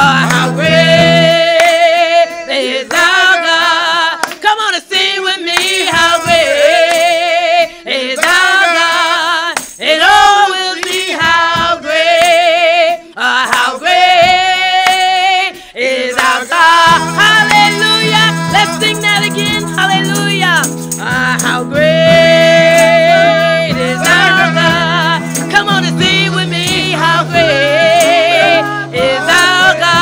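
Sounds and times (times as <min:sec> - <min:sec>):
person singing with vibrato: 0:00.0 - 0:30.0.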